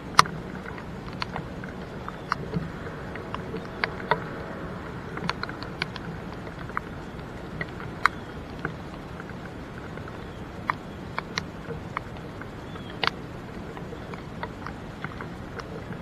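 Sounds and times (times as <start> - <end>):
raindrops tapping: 0.0 - 16.0.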